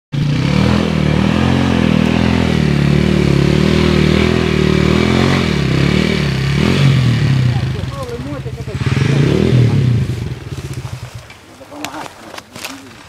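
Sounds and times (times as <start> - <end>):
dirt bike engine revving: 0.1 - 12.1.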